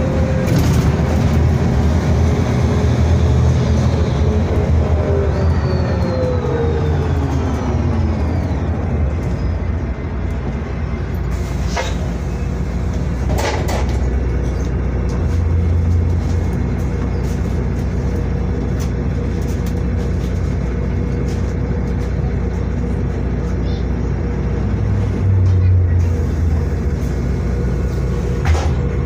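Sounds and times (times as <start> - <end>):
diesel engine idling: 0.0 - 29.0
drivetrain whine: 0.0 - 29.0.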